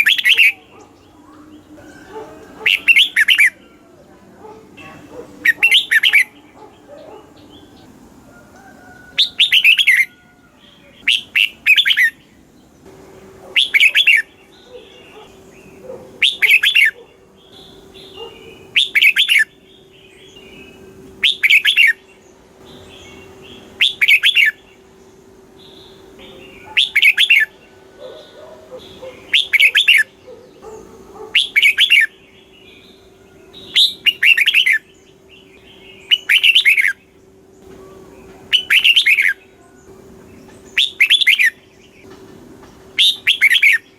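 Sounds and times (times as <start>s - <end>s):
bulbul singing warbled phrase: 0.0s - 4.0s, 4.6s - 8.0s, 9.2s - 12.3s, 13.6s - 22.1s, 22.7s - 24.8s, 25.7s - 41.7s.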